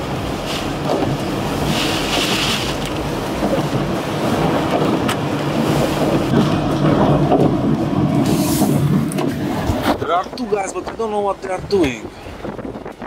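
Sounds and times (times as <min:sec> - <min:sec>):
storm-force wind: 0:00.0 - 0:13.0.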